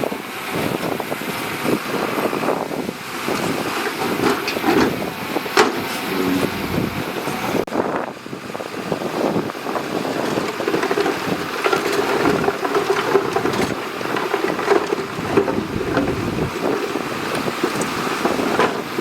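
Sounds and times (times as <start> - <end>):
diesel engine running: 0.1 - 19.0.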